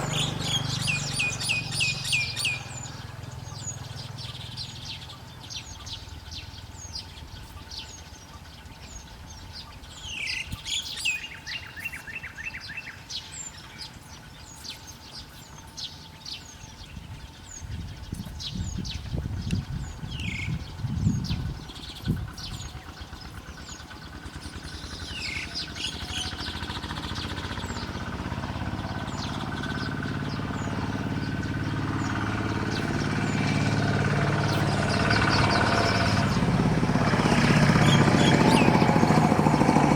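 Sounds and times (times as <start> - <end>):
engine drone: 0.0 - 39.9
small birds chirping: 0.0 - 39.9.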